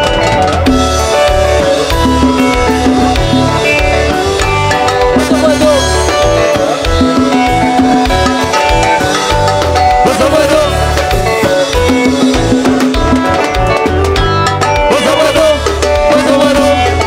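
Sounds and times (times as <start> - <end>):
bass: 0.0 - 17.0
drum kit: 0.0 - 17.0
electric guitars: 0.0 - 17.0
hand drums: 0.0 - 17.0
keyboard: 0.0 - 17.0.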